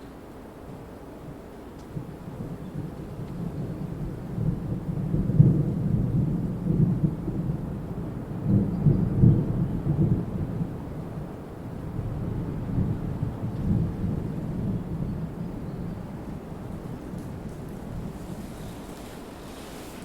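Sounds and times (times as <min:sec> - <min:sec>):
deep stormy rumble: 0:02.0 - 0:18.4.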